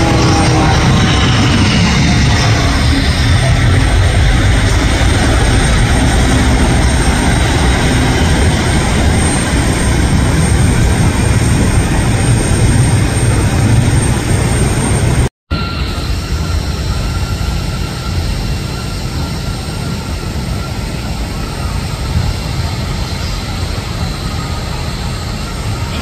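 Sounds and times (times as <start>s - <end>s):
jet airliner taking off: 0.0s - 26.0s.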